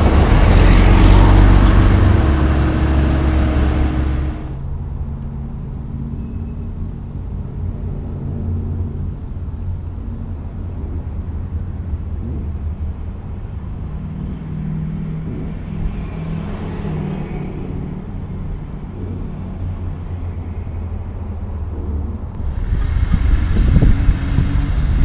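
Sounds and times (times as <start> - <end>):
vehicle passing by: 0.0 - 6.1, 7.3 - 25.0
vehicle engine rumbling: 0.0 - 25.0.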